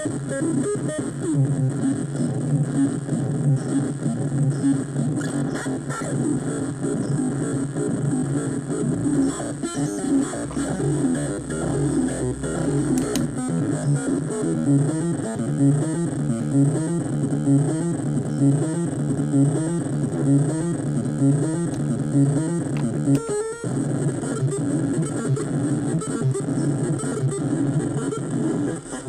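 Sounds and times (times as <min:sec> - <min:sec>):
stepped electronic note pattern: 0:00.0 - 0:28.8.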